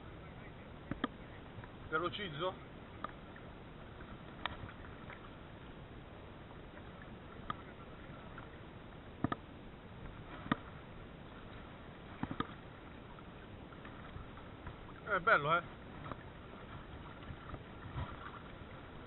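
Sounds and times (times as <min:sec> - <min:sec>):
sea water and wind hiss: 0:00.0 - 0:19.0.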